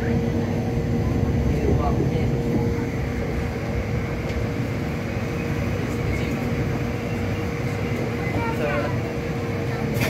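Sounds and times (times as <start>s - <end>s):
constant hum: 0.0s - 10.0s
tram rumbling on track: 0.0s - 10.0s.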